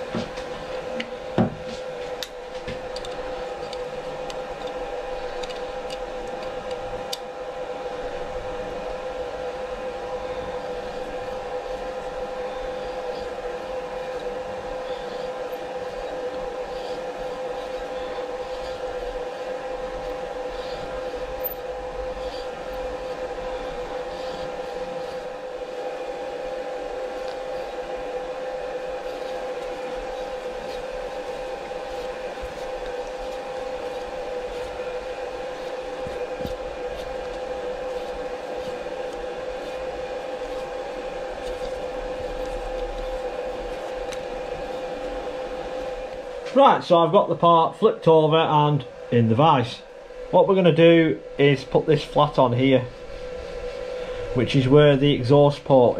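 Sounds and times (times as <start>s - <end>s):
workshop machine humming: 0.0s - 55.9s.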